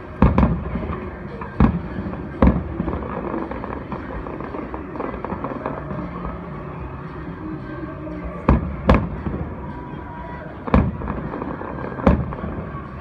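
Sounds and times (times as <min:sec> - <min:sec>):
fireworks bursting: 0:00.0 - 0:07.0, 0:08.3 - 0:09.9, 0:10.6 - 0:13.0
faint background noise: 0:00.0 - 0:13.0.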